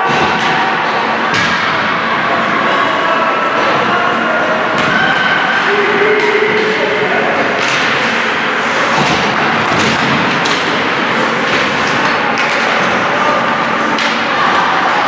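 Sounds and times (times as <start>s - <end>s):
sticks and puck hitting boards: 0.0s - 2.1s, 4.7s - 15.0s.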